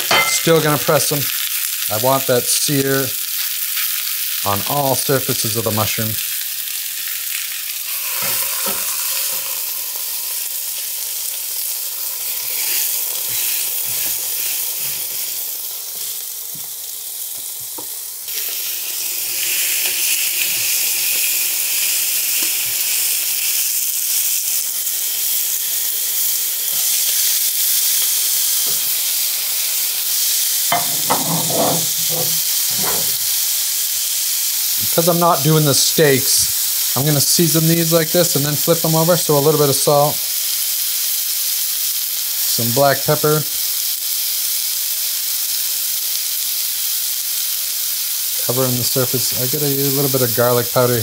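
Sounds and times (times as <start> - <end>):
oil popping and crackling: 0.0 - 50.4
mushrooms sizzling in oil: 0.0 - 51.0.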